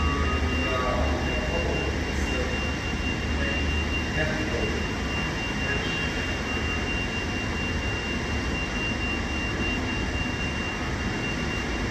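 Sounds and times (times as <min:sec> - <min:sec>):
jet turbine whine: 0:00.0 - 0:11.9.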